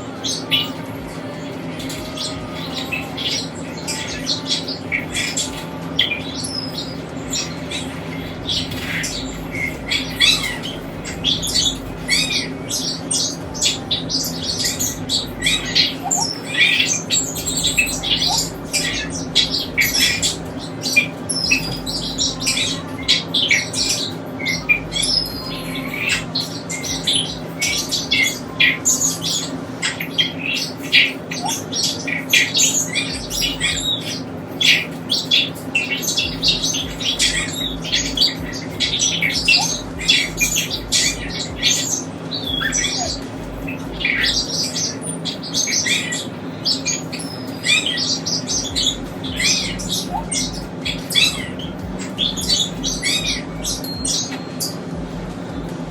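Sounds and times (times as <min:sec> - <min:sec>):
birds chirping and squawking: 0:00.0 - 0:55.9
steady low hum: 0:00.0 - 0:55.9.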